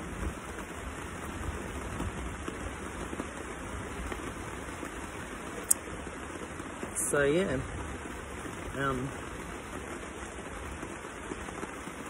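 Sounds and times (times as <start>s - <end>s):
rain on tent: 0.0s - 12.0s.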